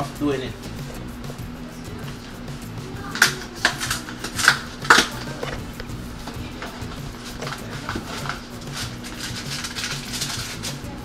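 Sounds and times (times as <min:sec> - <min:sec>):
background music: 0:00.0 - 0:11.0
aluminium foil crackling: 0:01.8 - 0:11.0.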